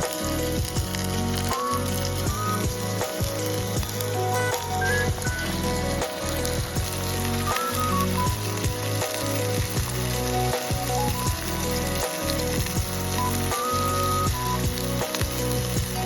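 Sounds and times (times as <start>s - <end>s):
background music with bass line: 0.0s - 16.0s
food sizzling in a pan: 0.0s - 16.0s.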